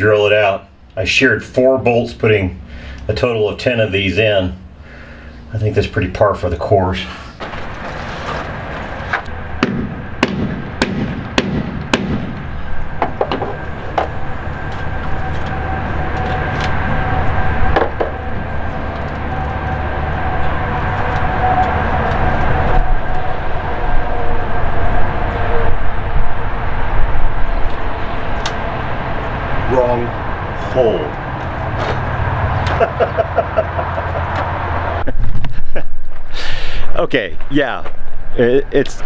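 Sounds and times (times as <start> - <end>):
low mechanical rumble: 0.0 - 39.0.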